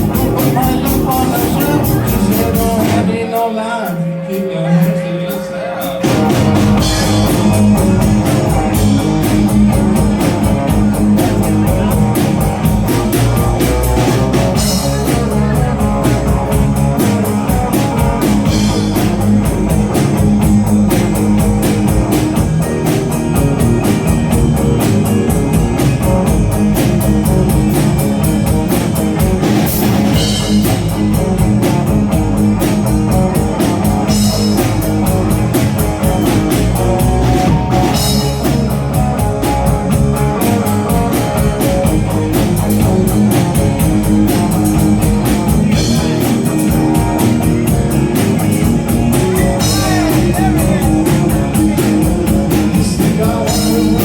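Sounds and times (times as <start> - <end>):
bass: 0.0 - 54.0
drum kit beat: 0.0 - 54.0
electric guitar: 0.0 - 54.0.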